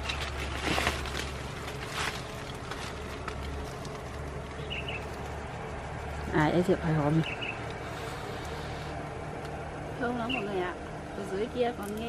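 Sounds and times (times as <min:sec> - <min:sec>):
rustling of twigs and leaves: 0:00.0 - 0:12.0
steady low rumble: 0:00.0 - 0:12.0.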